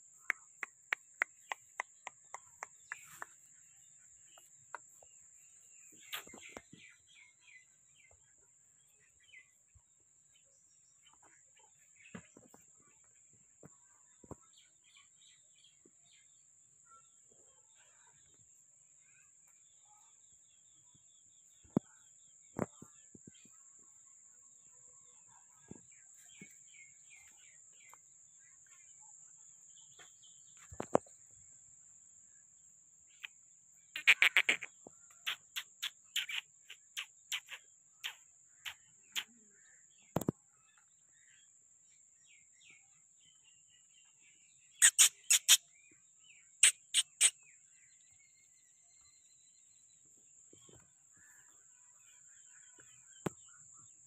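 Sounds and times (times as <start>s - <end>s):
faint bird chirps: 0.0s - 54.0s.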